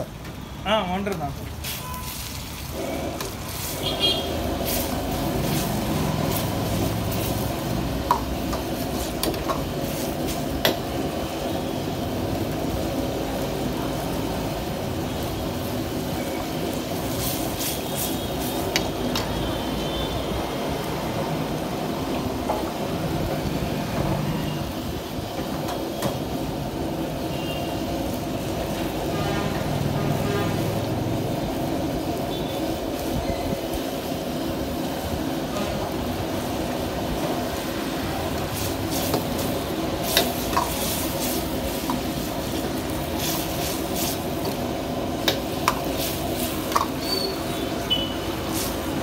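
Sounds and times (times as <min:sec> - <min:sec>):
gas burner roaring: 0:00.0 - 0:49.0.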